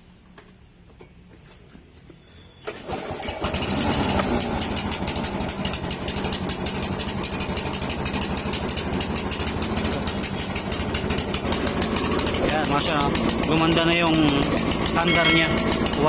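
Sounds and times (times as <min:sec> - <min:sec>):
lawn mower engine running: 0:02.6 - 0:16.0.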